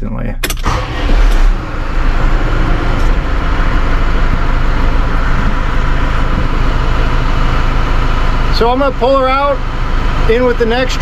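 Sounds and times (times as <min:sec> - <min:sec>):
tractor diesel engine starting: 0:00.4 - 0:11.0.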